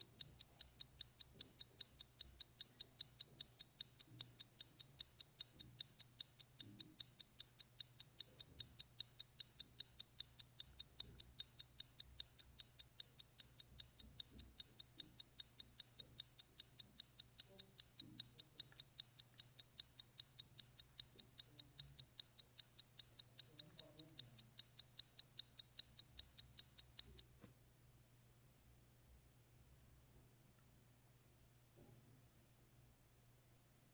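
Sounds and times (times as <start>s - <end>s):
clock ticking: 0.0s - 27.2s.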